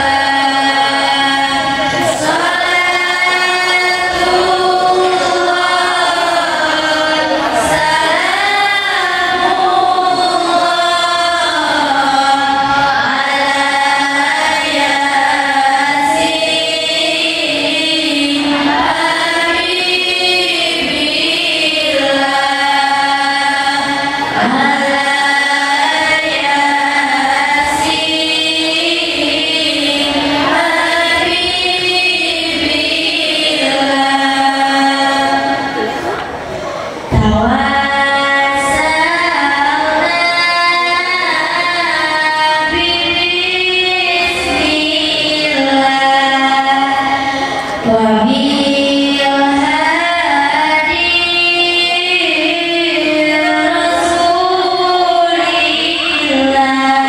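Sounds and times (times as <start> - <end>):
girls singing into microphones: 0.0 - 57.0.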